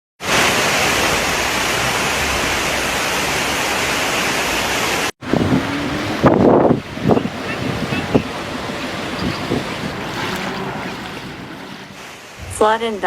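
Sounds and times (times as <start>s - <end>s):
water rushing: 0.2s - 13.0s.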